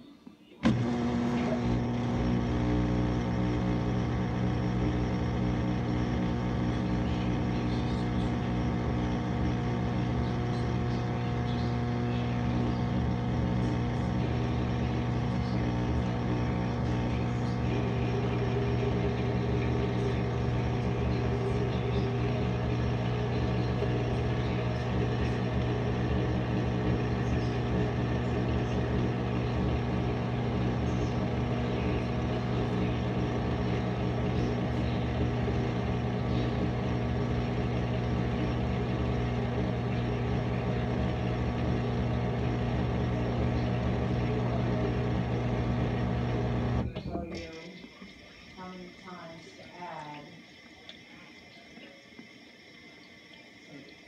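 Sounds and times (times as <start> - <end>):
dishwasher motor hum: 0.6 - 54.0.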